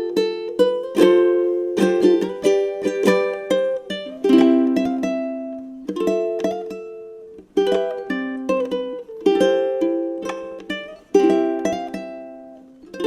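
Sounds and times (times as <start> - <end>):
ukulele playing slow melody: 0.0 - 13.0.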